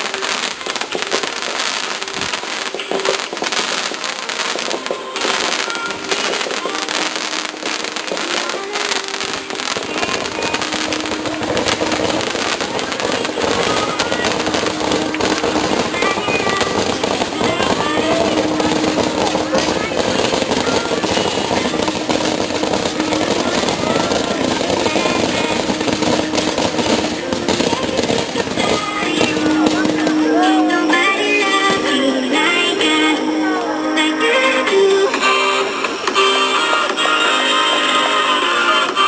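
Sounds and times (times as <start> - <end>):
fireworks bursting and crackling: 0.0 - 39.0
music playing: 0.0 - 39.0.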